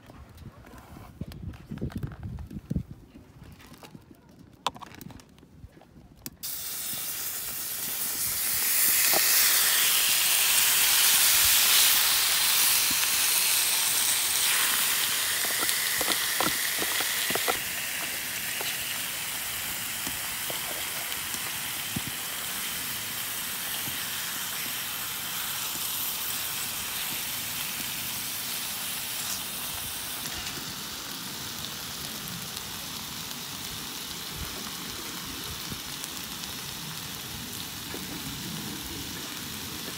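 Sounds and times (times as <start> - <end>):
meat sizzling on hot griddle: 6.4 - 39.9.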